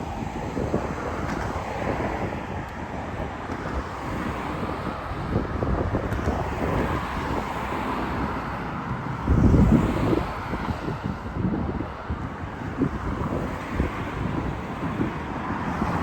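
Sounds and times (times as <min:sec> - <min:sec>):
road traffic: 0:00.0 - 0:16.0
wind buffeting microphone: 0:00.0 - 0:16.0.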